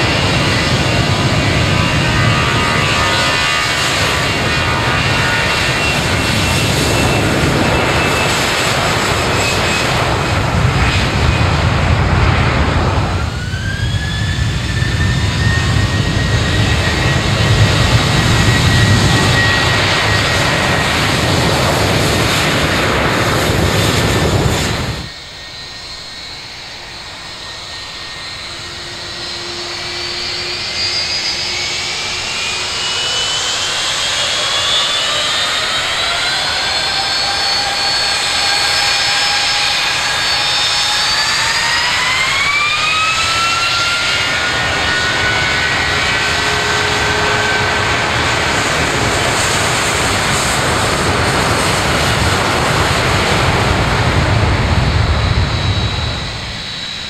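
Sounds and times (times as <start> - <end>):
jet engine spool-up whine: 0.0 - 57.0
jet engines roaring: 0.0 - 57.0.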